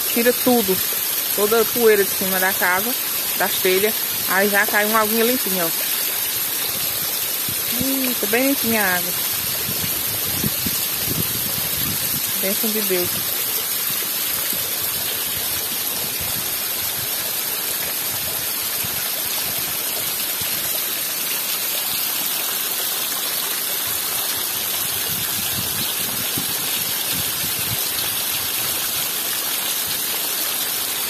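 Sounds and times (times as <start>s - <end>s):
heavy rain falling: 0.0s - 31.0s
rainwater pouring off roof: 0.0s - 31.0s.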